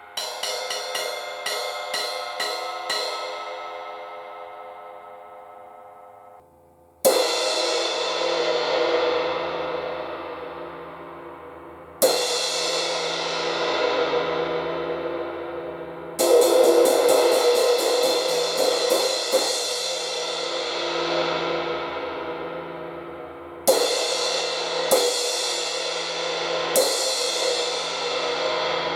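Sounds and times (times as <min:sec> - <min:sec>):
crash cymbal struck: 0:00.0 - 0:06.4, 0:07.0 - 0:28.9.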